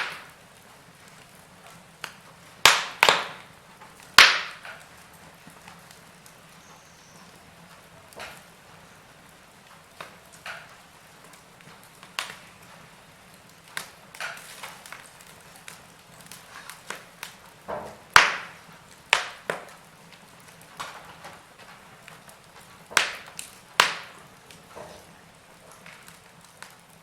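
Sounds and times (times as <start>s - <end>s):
faint steady hiss: 0.0s - 27.0s
wood fire crackling: 0.0s - 27.0s.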